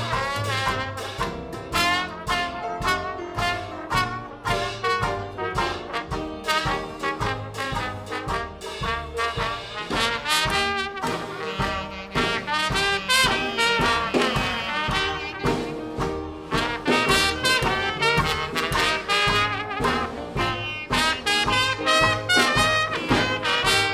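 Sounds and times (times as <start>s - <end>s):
jazz band playing swing: 0.0s - 23.9s.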